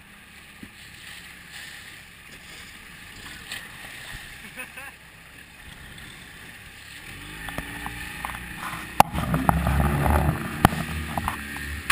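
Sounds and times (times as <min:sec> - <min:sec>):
outboard motor speeding up: 0:00.0 - 0:11.9
water noise: 0:00.0 - 0:11.9
wind: 0:00.0 - 0:11.9.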